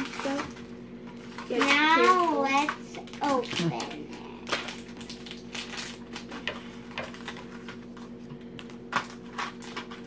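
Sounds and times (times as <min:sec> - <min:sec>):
packaging clicks and paper rustles: 0:00.0 - 0:10.0
steady low background hum: 0:00.0 - 0:10.0.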